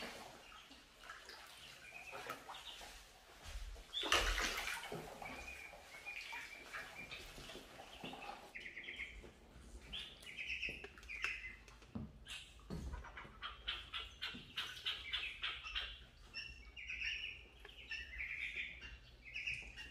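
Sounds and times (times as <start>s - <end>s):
ducklings peeping: 0.0s - 19.9s
ducklings splashing in water: 0.0s - 19.9s.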